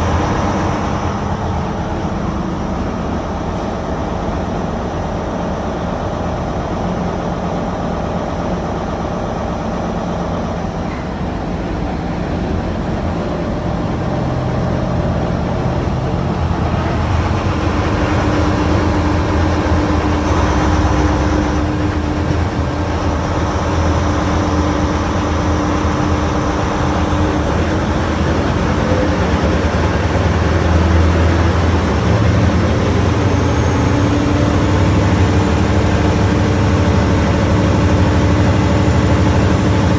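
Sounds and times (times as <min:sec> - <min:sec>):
diesel train engine under power: 0:00.0 - 0:39.9.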